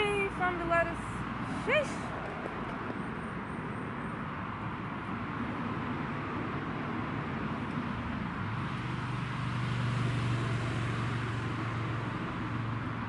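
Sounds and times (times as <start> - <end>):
passing vehicle engine drone: 0.0 - 13.0.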